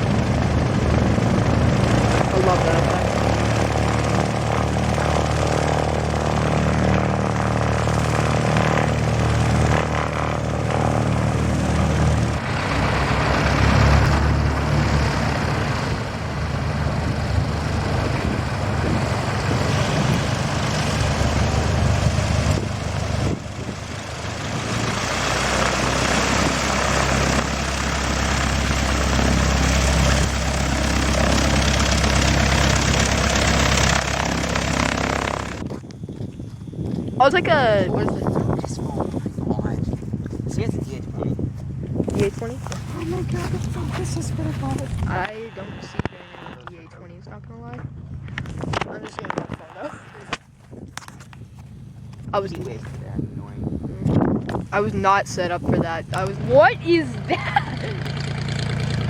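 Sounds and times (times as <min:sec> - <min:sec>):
propeller airplane engine droning: 0:00.0 - 0:59.0.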